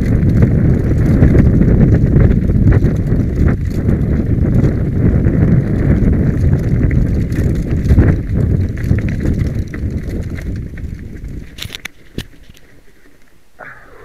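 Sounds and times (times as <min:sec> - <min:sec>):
bike rattling over rocks: 0:00.0 - 0:13.5
bike tyres rolling over stones: 0:00.0 - 0:14.0
wind buffeting microphone: 0:00.0 - 0:14.0.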